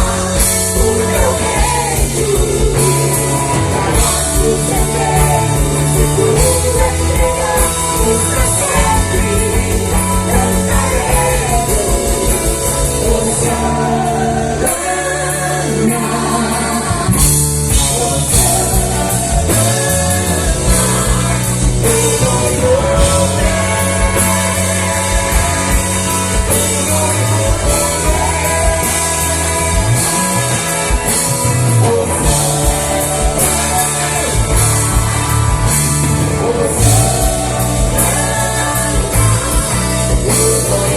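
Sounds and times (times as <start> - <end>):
person singing: 0.0 - 40.9
rock band playing: 0.0 - 40.9.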